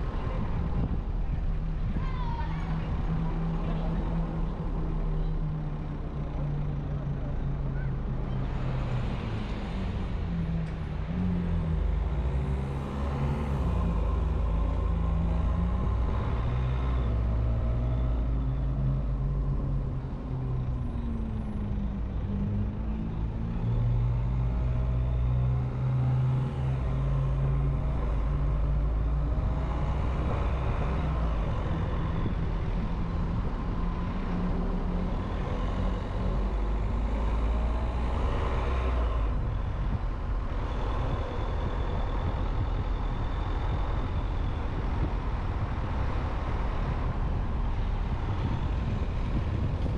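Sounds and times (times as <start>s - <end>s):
low road rumble: 0.0s - 49.9s.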